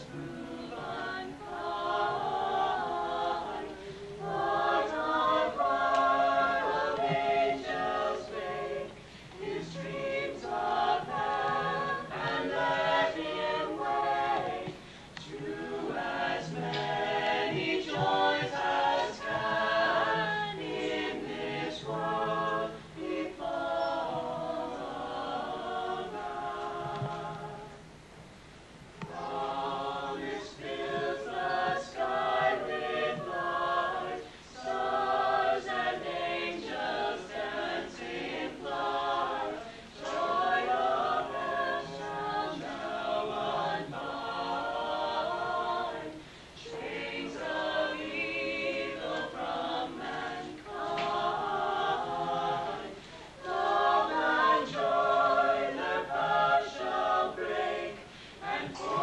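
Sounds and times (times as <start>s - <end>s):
mixed choir singing a cappella: 0.0s - 27.9s, 29.0s - 59.0s.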